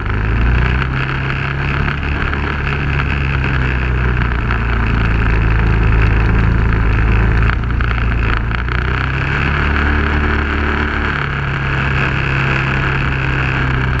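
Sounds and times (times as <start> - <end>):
off-road vehicle engine running: 0.0 - 14.0
wind and tyre hiss: 0.0 - 14.0.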